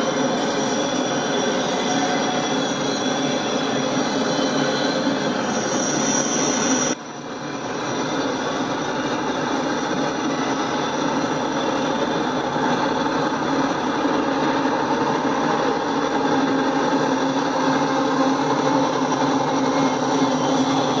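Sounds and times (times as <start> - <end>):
diesel locomotive engine drone: 0.0 - 21.0
train wheels rushing on rail: 0.0 - 21.0.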